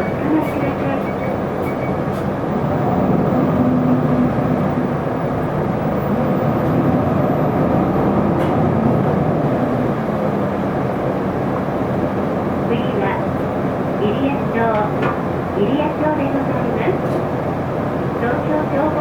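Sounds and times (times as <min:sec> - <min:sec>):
bus engine drone: 0:00.0 - 0:19.0.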